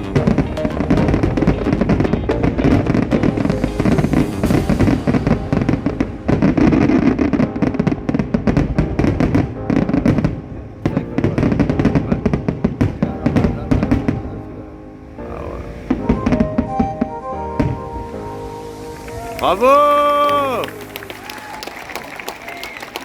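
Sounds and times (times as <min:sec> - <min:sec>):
fireworks bangs and crackles: 0:00.0 - 0:14.6, 0:15.2 - 0:17.0, 0:17.6 - 0:21.4
music playing: 0:00.0 - 0:23.0.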